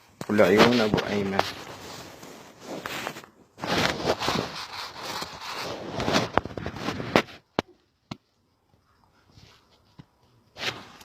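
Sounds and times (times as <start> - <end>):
close rustling and scraping: 0.0 - 11.0.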